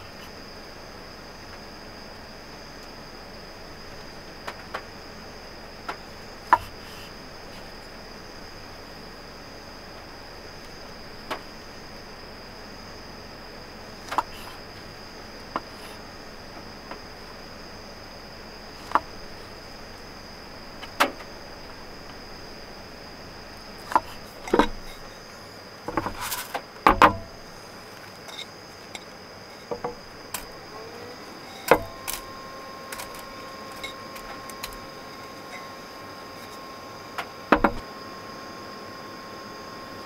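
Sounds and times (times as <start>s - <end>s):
faint high whine: 0.0s - 40.0s.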